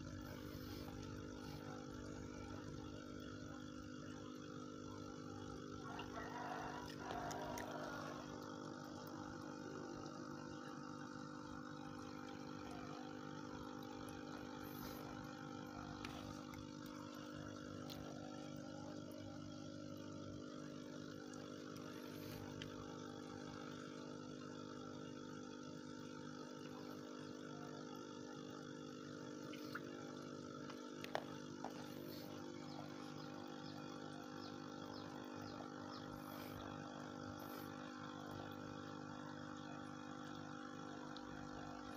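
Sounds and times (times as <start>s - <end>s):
aquarium air pump humming: 0.0s - 41.9s.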